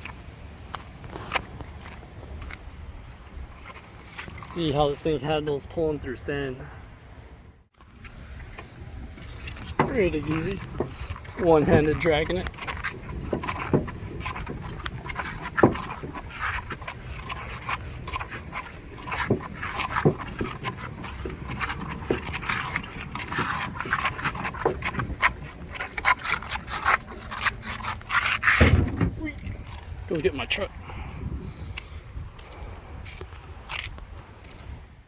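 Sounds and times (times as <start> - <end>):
footsteps and wheels crunching sand: 0.0 - 6.7, 7.7 - 35.0.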